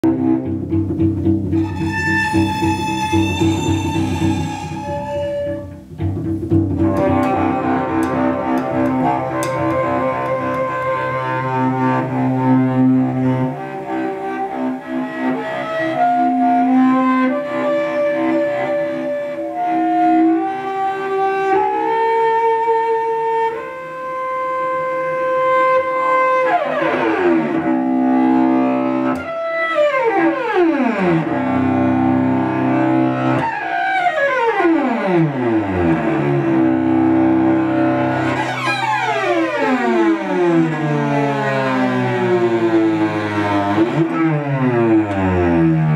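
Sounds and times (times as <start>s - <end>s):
bowed cello: 0.0s - 45.9s.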